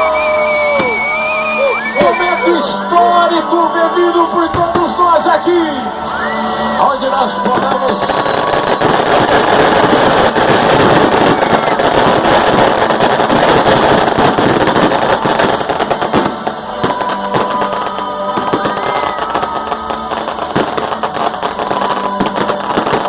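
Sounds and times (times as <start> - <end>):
fireworks crackling and popping: 0.0 - 23.0.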